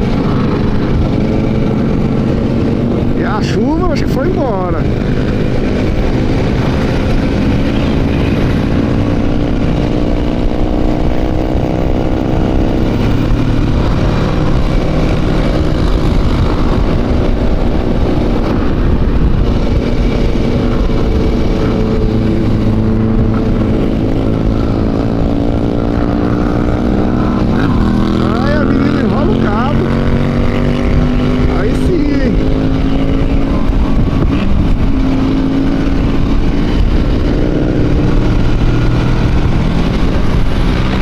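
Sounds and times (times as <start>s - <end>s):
low wind rumble: 0.0s - 41.0s
motorcycle engine cruising: 0.0s - 41.0s.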